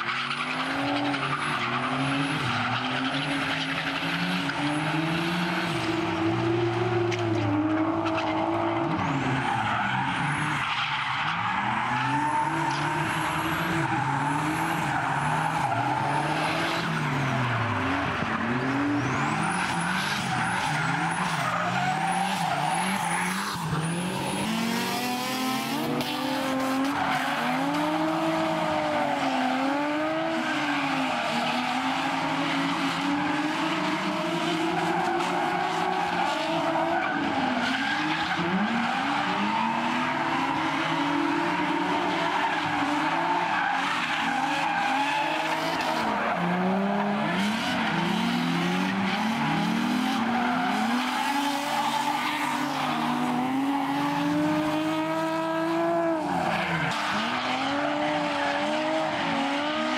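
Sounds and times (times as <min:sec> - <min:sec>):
car engines revving: 0:00.0 - 0:59.9
tires squealing: 0:00.0 - 0:59.9.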